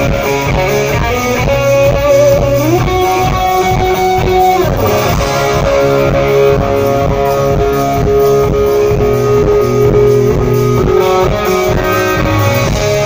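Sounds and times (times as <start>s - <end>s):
bass guitar: 0.0s - 13.0s
electric guitar: 0.0s - 13.0s.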